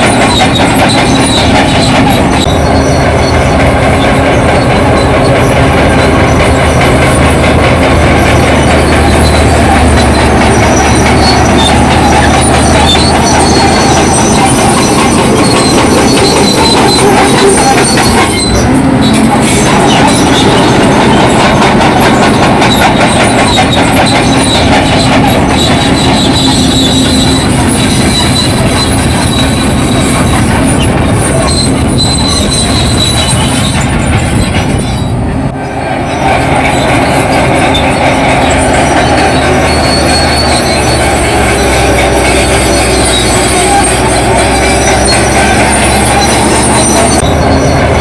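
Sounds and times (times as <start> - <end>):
diesel engine under load: 0.0 - 48.0
high track squeal: 0.0 - 48.0
steel tracks clanking: 0.0 - 48.0.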